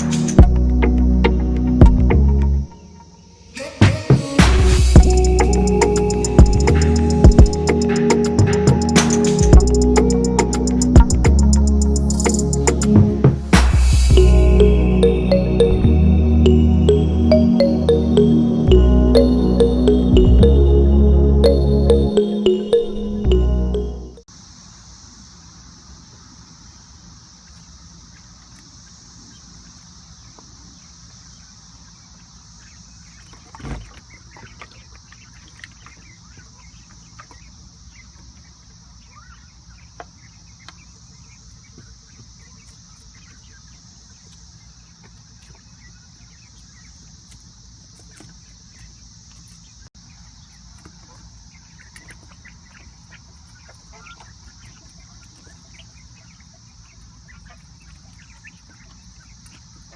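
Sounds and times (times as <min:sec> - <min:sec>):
insects buzzing: 0:00.0 - 0:22.7, 0:24.2 - 0:59.9.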